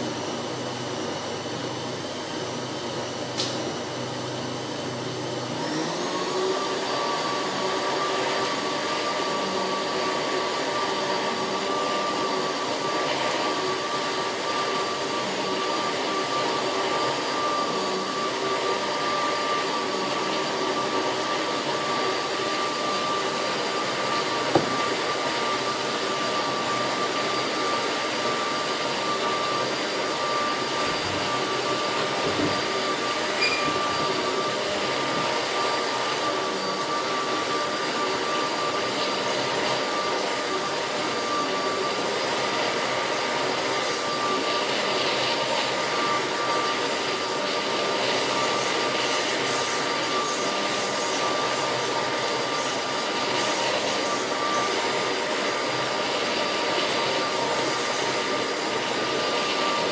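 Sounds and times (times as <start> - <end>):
electric blender whining: 0.0 - 59.9.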